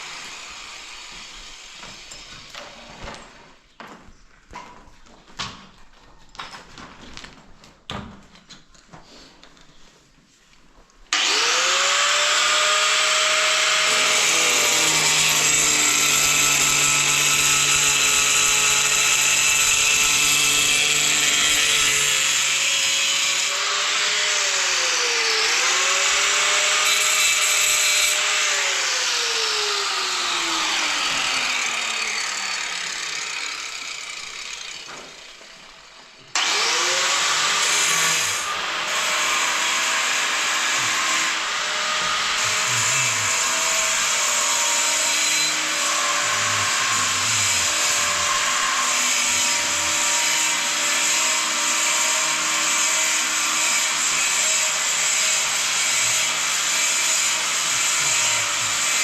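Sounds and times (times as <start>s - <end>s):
electric power tool whining: 11.1s - 59.0s.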